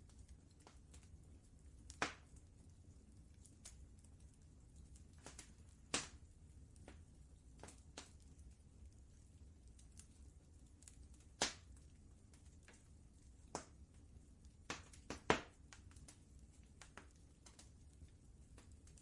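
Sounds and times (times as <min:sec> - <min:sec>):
faint low rumble: 0:00.0 - 0:19.0
wood fire crackling: 0:00.0 - 0:19.0.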